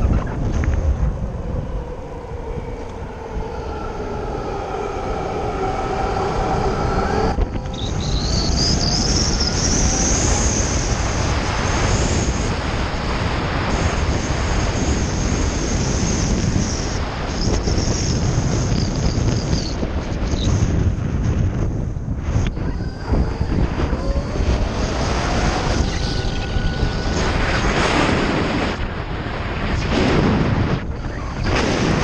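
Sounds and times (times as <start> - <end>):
motorbike riding: 0.0 - 32.0
rising whine: 0.0 - 32.0
wind noise on microphone: 0.0 - 32.0.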